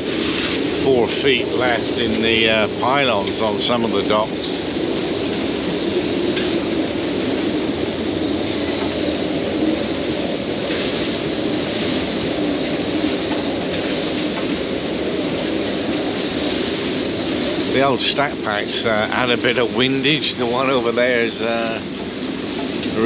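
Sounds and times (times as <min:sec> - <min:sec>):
howling hurricane wind: 0:00.0 - 0:23.0.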